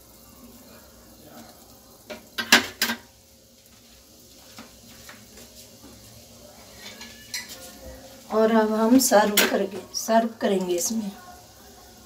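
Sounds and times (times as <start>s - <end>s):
soup simmering in a pan: 0.0s - 12.0s.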